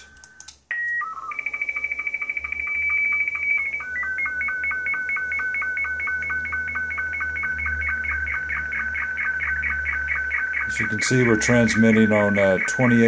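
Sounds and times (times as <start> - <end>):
pulsing electronic signal tones: 0.0 - 13.0.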